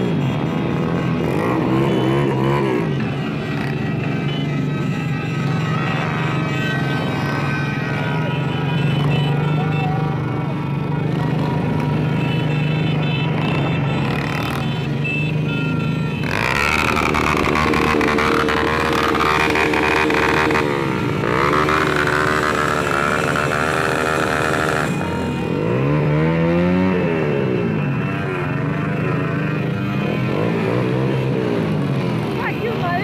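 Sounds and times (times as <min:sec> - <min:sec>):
small motorcycle engines revving: 0:00.0 - 0:33.0.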